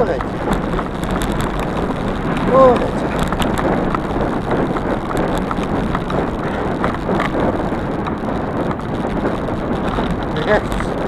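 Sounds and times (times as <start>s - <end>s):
bicycle tyre and frame noise: 0.0s - 11.0s
wind on microphone: 0.0s - 11.0s.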